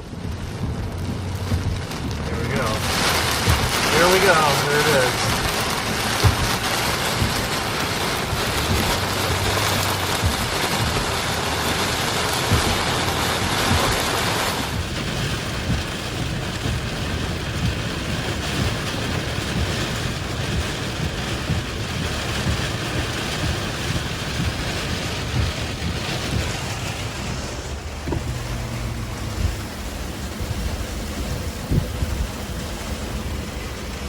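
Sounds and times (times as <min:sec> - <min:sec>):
rain hissing against a vehicle: 0:00.0 - 0:34.0
wind buffeting rumble: 0:00.0 - 0:34.0.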